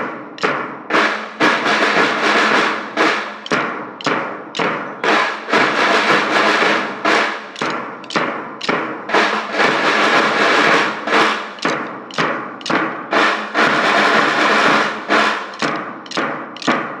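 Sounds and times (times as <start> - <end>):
drums struck in a steady beat: 0.0 - 17.0.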